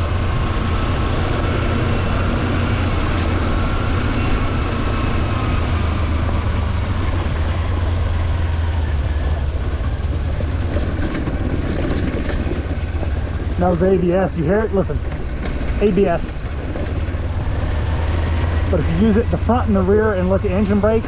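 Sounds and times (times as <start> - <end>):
faint gear whine: 0.0 - 21.0
motorcycle engine running: 0.0 - 21.0
wind noise: 0.0 - 21.0.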